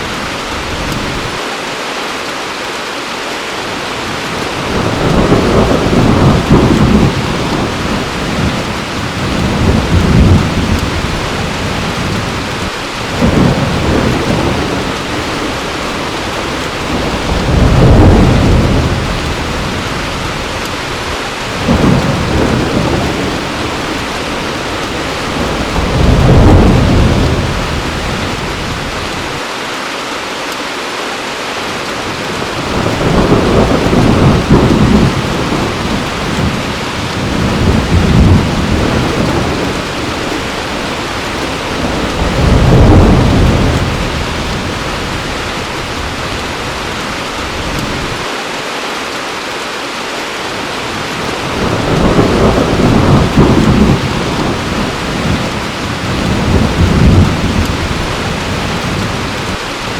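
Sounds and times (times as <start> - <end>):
heavy rain: 0.0 - 59.9
thunder rumbling: 4.0 - 29.4, 32.1 - 48.3, 50.9 - 59.9.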